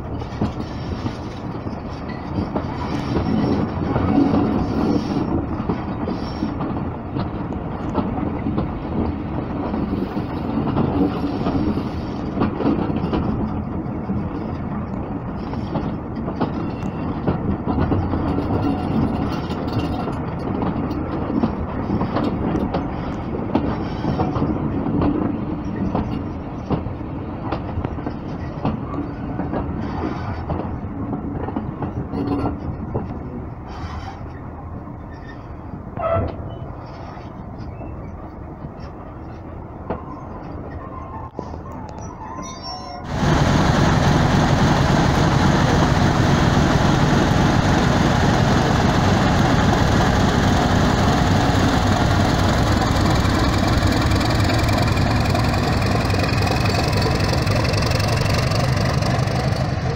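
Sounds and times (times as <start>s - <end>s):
wheels rumbling on rail: 0.0s - 59.9s
track clicks and clatter: 0.2s - 33.3s, 43.1s - 59.9s.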